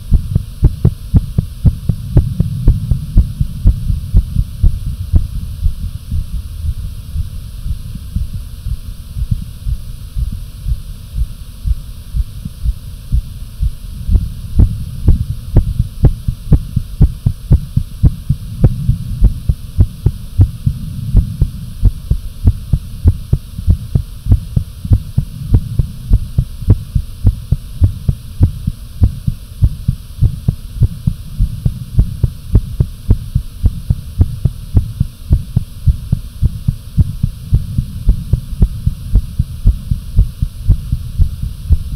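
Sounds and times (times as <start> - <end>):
fast heartbeat: 0.0 - 41.9
low steady hum: 0.0 - 41.9.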